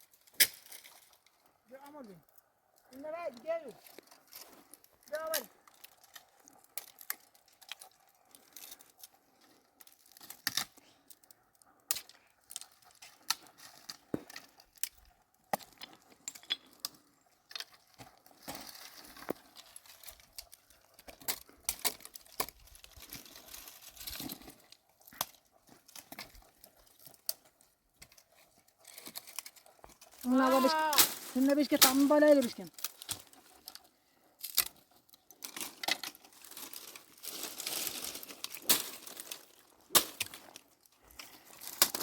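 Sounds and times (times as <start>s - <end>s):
rustling and crinkling: 0.0s - 42.0s.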